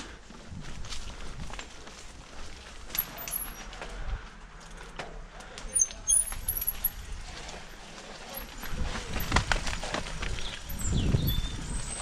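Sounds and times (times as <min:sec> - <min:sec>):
bike frame knocking and rattling: 0:00.5 - 0:04.0, 0:04.6 - 0:12.0.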